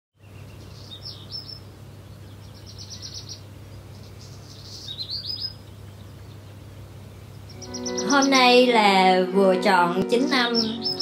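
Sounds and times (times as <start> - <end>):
small birds chirping: 0.2 - 9.2, 10.0 - 11.0.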